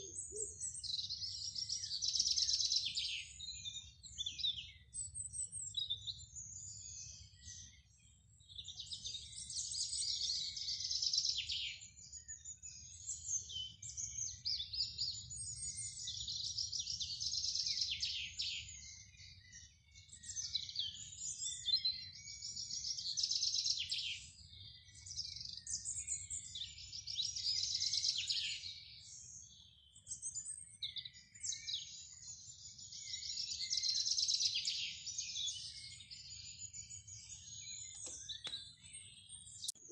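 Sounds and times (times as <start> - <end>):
songbirds warbling: 0.0 - 39.9.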